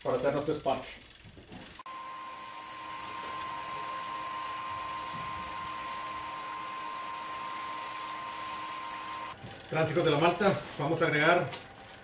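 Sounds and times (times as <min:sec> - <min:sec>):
water spraying with hiss: 0:02.0 - 0:12.0.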